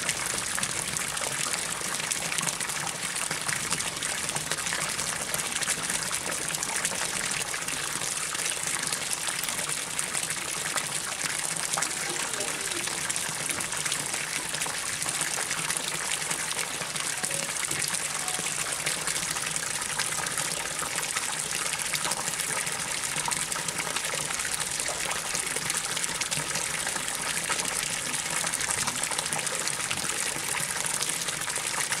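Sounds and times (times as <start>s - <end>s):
water pouring into pond: 0.0s - 32.0s.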